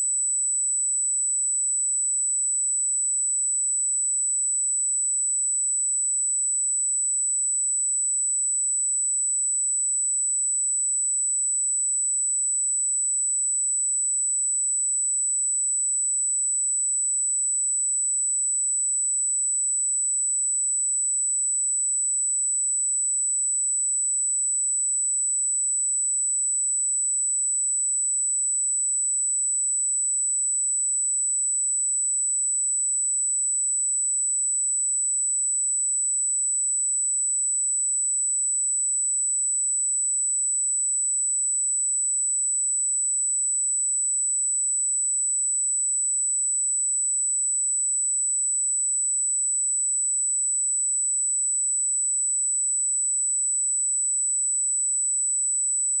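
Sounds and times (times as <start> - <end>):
high-pitched sine test tone: 0.0 - 56.0.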